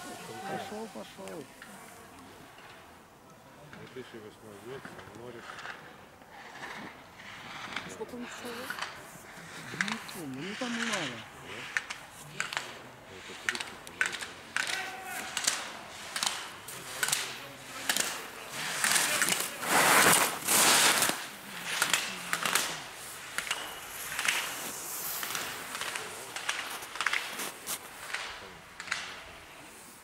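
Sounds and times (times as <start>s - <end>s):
rush of snow: 0.0s - 2.6s, 4.5s - 30.0s
skis scraping on icy snow: 0.0s - 2.9s, 3.6s - 30.0s.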